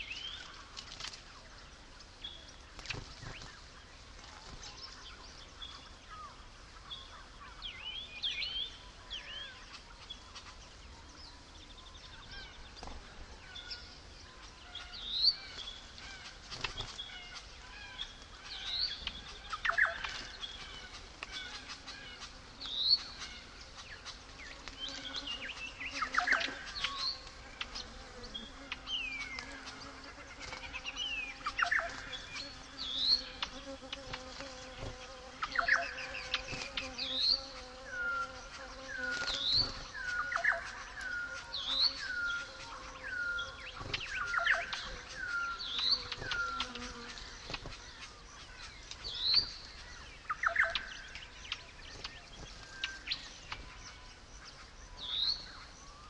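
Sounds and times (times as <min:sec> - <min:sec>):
birds calling: 0:00.0 - 0:56.0
faint insect-like hum: 0:00.0 - 0:56.0.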